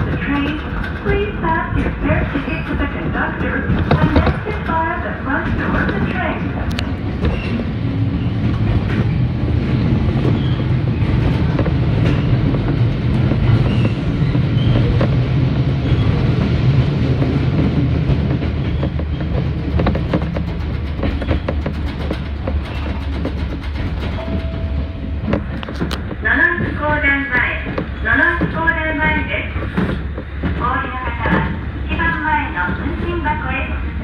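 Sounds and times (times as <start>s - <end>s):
rail joint clacks: 0.0s - 34.0s
train wheels rumbling on rail: 0.0s - 34.0s.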